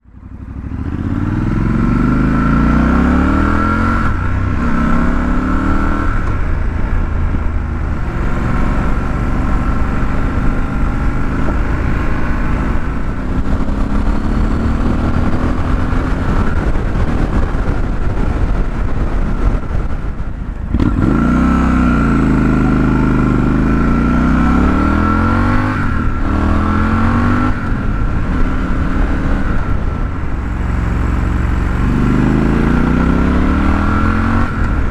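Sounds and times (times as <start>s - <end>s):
motorcycle engine revving: 0.0s - 34.9s
even rushing noise: 0.2s - 34.9s.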